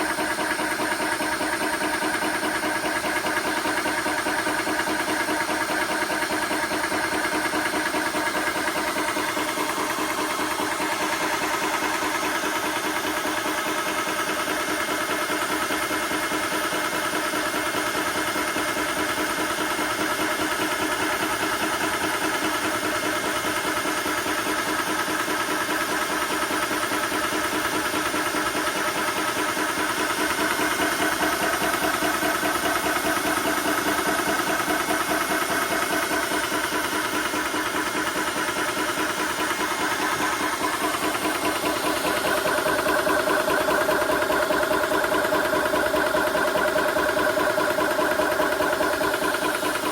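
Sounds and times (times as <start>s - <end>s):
air compressor running: 0.0s - 49.9s.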